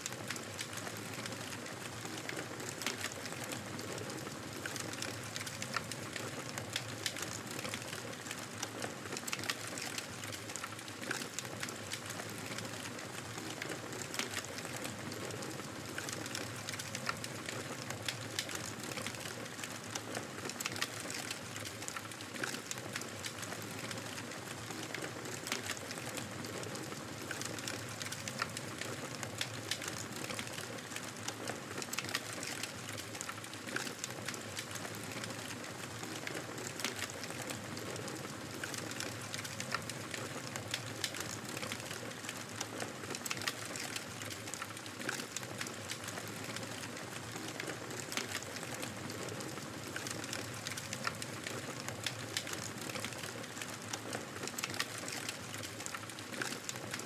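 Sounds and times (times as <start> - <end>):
fire crackles and pops: 0.0 - 57.0
wood fire burning with hiss: 0.0 - 57.0.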